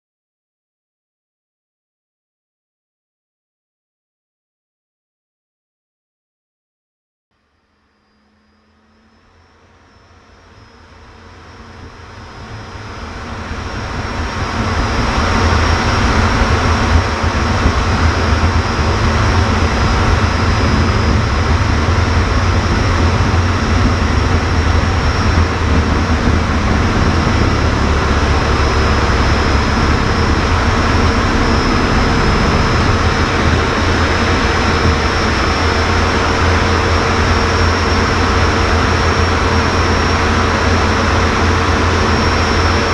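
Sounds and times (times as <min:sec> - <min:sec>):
turbine whine: 0:07.4 - 0:42.9
jet engine rumble: 0:07.6 - 0:42.9.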